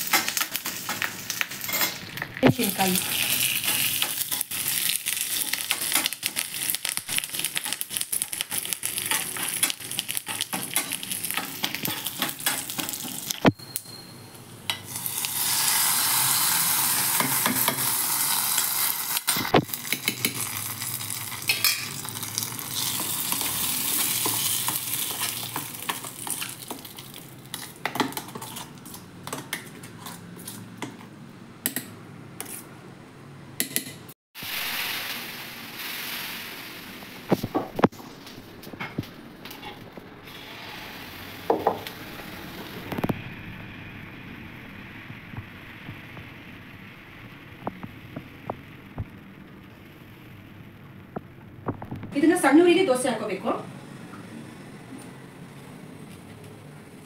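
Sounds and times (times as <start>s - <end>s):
seeds crackling in hot oil: 0.0s - 13.5s, 14.7s - 30.8s, 34.4s - 52.6s
steady sizzle: 0.0s - 30.9s, 34.4s - 54.8s.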